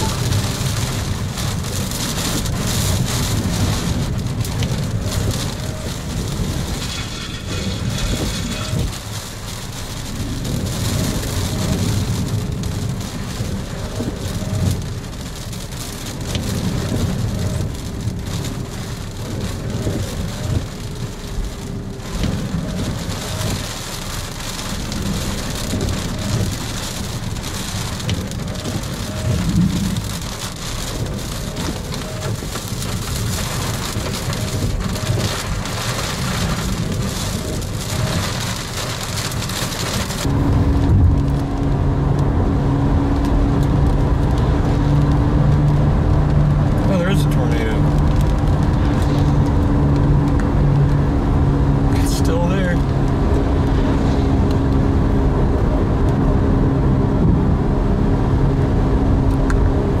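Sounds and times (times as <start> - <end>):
steady rain: 0.0 - 60.0
thunder rumble: 0.0 - 60.0.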